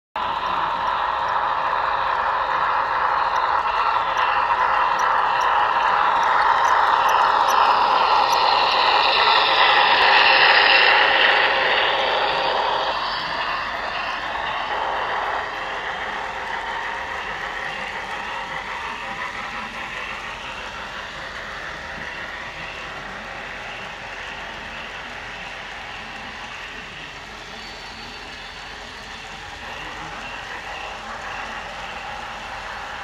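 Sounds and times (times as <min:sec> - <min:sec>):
model train wheels rolling on rails: 0:00.2 - 0:33.0.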